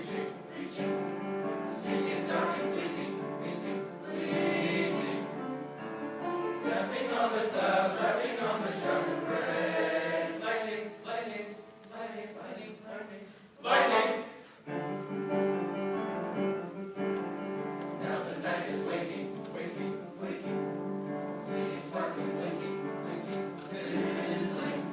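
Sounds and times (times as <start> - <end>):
choir singing: 0.0 - 14.5, 17.9 - 24.9.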